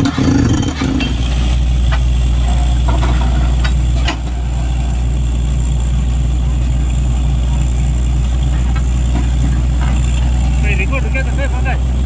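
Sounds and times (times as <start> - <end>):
drilling rig engine drone: 0.0 - 12.0.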